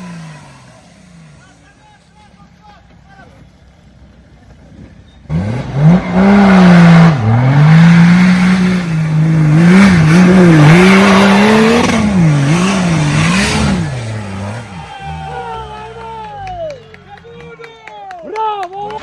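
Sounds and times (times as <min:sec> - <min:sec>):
off-road vehicle engine revving: 0:00.0 - 0:01.8, 0:02.8 - 0:17.6.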